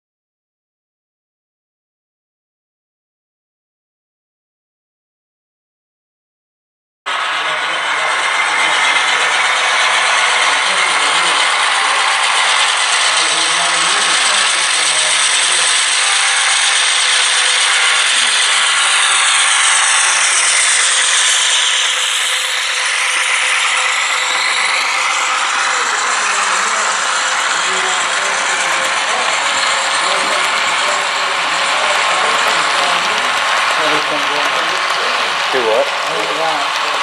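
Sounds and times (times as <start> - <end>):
model train wheels rattling: 7.2 - 37.0.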